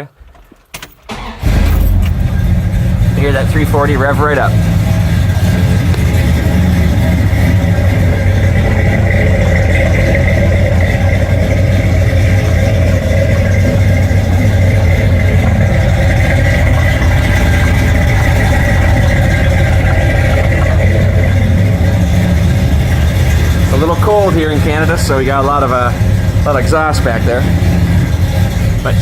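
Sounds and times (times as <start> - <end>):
vehicle engine running: 1.1 - 29.0.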